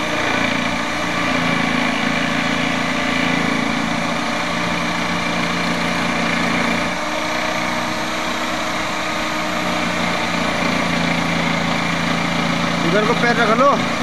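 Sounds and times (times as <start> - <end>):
electric jigsaw cutting plywood: 0.0 - 14.0.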